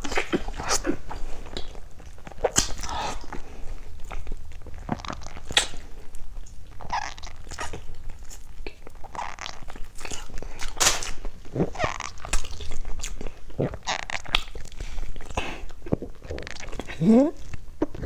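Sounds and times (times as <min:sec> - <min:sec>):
person chewing wet mouth noises: 0:00.0 - 0:18.0.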